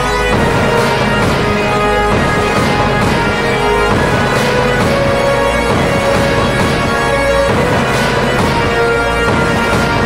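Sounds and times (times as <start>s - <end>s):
loud recorded music: 0.0s - 10.0s.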